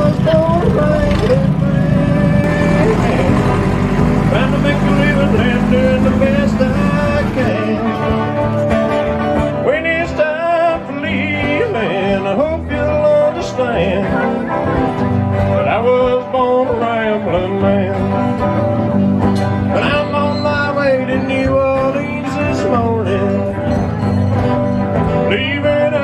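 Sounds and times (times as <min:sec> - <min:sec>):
bending lead melody line: 0:00.0 - 0:26.0
country-rock band playing: 0:00.0 - 0:26.0.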